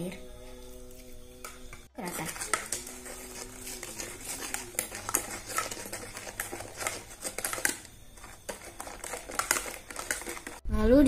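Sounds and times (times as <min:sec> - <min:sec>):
spatula scraping metal pot: 0:01.7 - 0:10.6.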